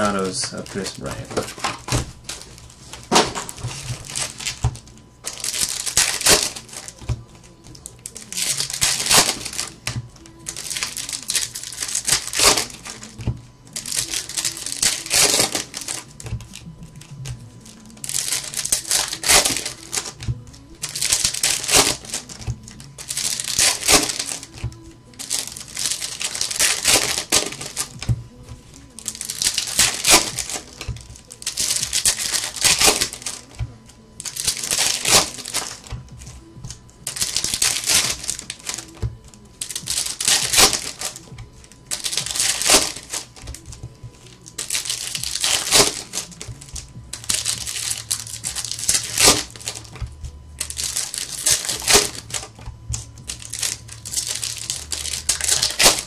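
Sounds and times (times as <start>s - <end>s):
foil wrappers crinkling: 0.0s - 56.0s.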